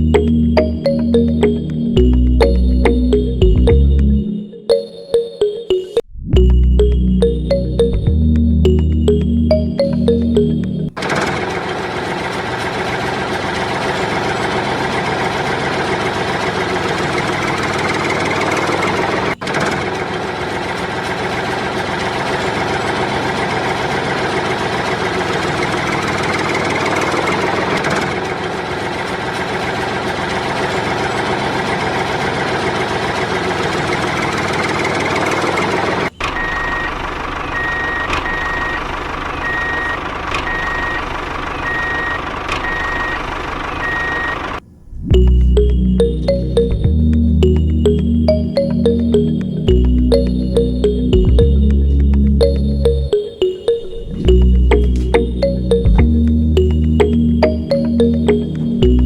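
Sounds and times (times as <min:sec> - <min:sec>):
vehicle engine running: 0:00.0 - 0:04.2, 0:06.8 - 0:59.0
reversing alarm beeping: 0:00.0 - 0:11.6, 0:17.0 - 0:59.0.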